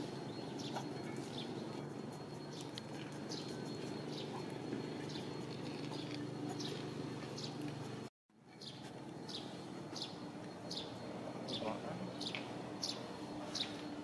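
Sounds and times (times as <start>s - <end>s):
faint thin whine: 0.0s - 14.0s
steady low hum: 0.0s - 14.0s.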